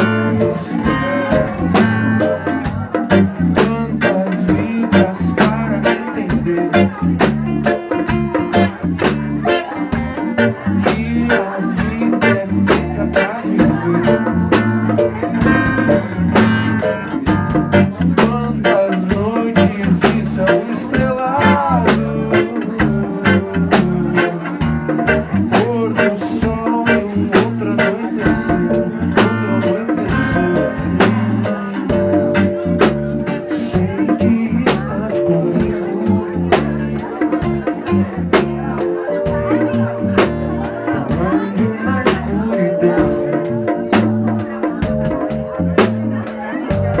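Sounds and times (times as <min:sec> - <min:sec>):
bass guitar: 0:00.0 - 0:47.0
bent guitar notes: 0:00.0 - 0:47.0
drum beat: 0:00.0 - 0:47.0
electric guitar: 0:00.0 - 0:47.0.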